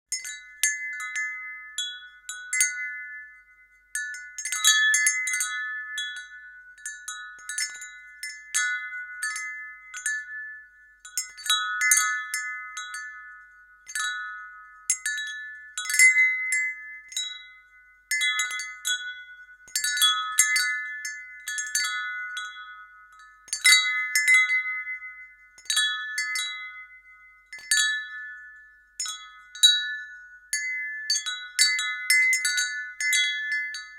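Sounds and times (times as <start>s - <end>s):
wind chime jangling: 0.1s - 33.9s.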